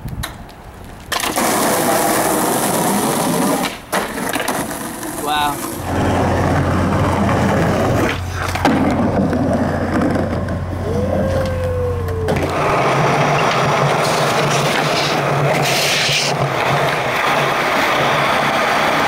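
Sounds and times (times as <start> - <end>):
sharp skateboard clack: 0.0 - 10.7, 11.4 - 19.0
skateboard wheels rolling: 0.0 - 19.0.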